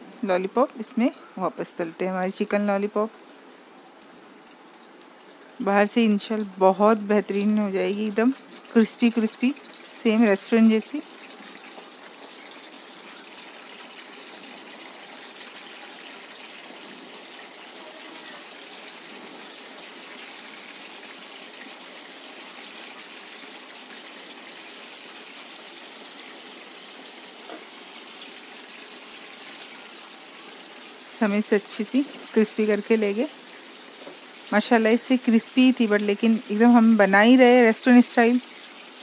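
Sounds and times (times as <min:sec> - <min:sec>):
chicken sizzling in hot oil: 0:01.7 - 0:39.0.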